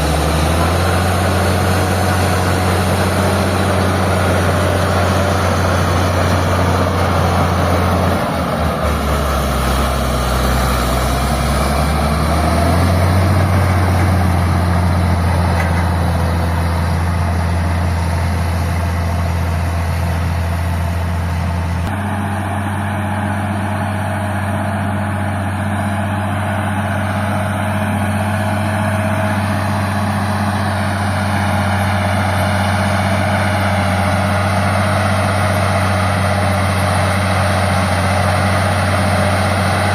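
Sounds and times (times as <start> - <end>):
crawler tractor diesel engine rumbling: 0.0 - 39.9.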